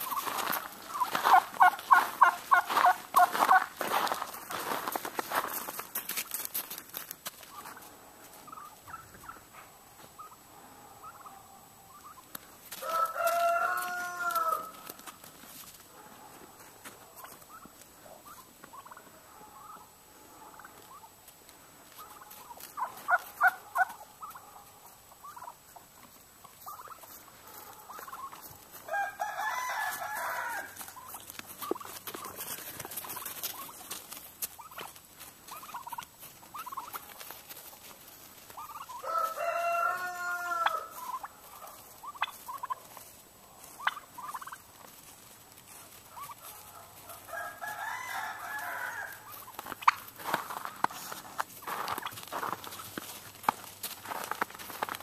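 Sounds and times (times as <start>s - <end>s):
turkeys gobbling: 0.0s - 55.0s.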